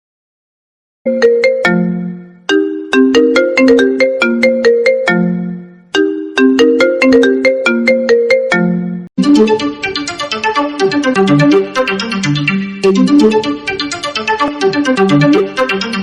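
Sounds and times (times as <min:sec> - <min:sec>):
smartphone ringtone melody: 0:01.1 - 0:16.0.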